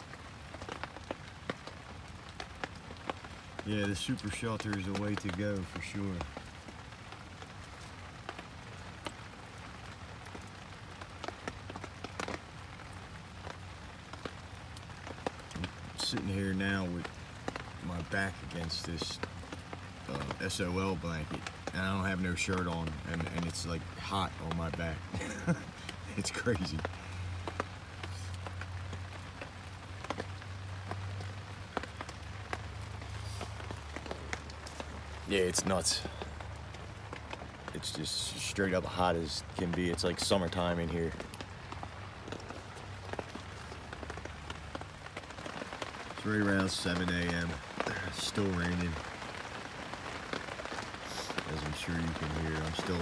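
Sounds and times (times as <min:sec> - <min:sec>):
heavy rain on a tarp: 0:00.0 - 0:53.0
raindrop ticks: 0:00.0 - 0:53.0.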